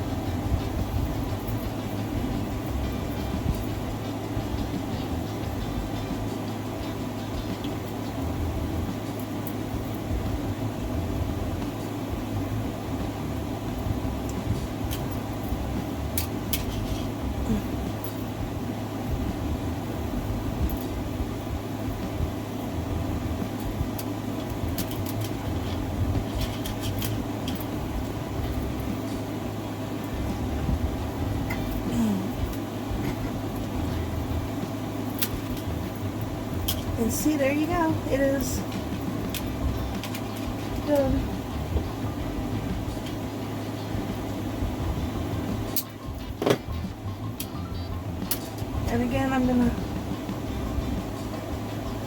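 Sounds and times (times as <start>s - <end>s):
machine hum: 0.0s - 52.0s.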